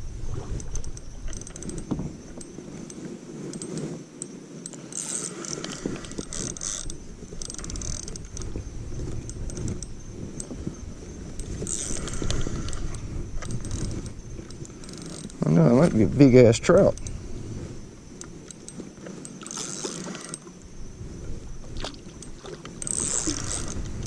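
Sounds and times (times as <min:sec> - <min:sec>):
fishing reel whirring: 0:00.4 - 0:20.7, 0:22.1 - 0:24.0
fishing reel clicking: 0:00.5 - 0:17.2, 0:18.1 - 0:20.6, 0:22.2 - 0:24.0.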